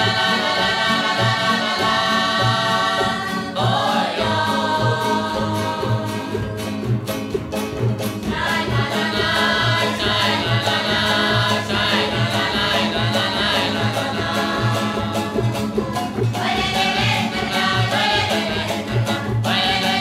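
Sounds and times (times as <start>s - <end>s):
group singing a folk song: 0.0s - 20.0s
guitar accompaniment: 0.0s - 20.0s
steady beat: 0.0s - 20.0s.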